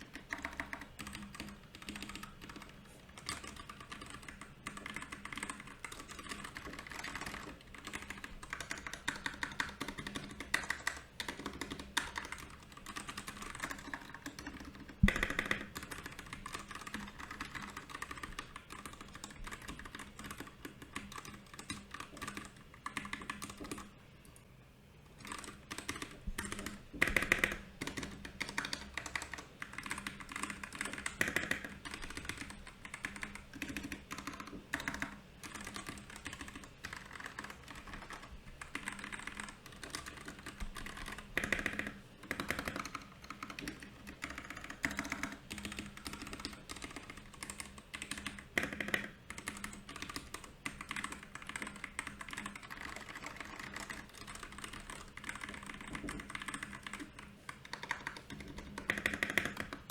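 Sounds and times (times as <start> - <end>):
mechanical keyboard typing: 0.0 - 23.9, 25.2 - 59.9.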